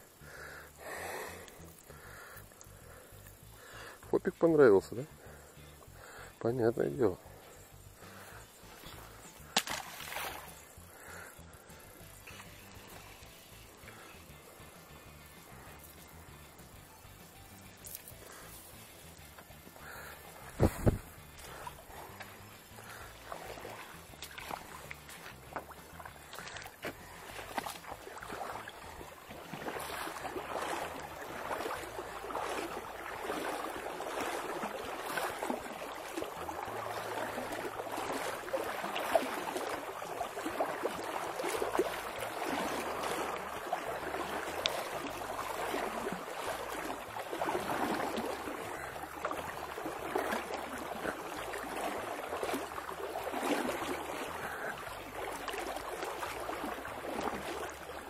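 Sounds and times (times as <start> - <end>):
river flowing and burbling: 0.0 - 58.0.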